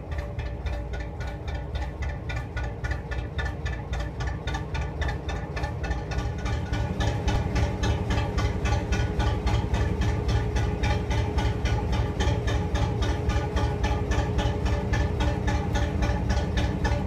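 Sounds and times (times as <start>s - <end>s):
diesel engine echoing in tunnel: 0.0s - 17.0s.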